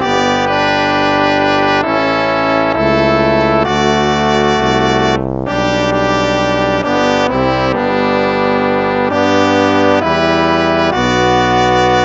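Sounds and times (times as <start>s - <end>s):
instrumental hymn music: 0.0s - 12.0s.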